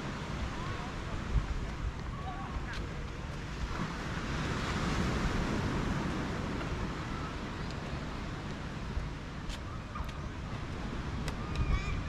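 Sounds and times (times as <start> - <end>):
small surf: 0.0 - 12.0
wind: 0.0 - 12.0.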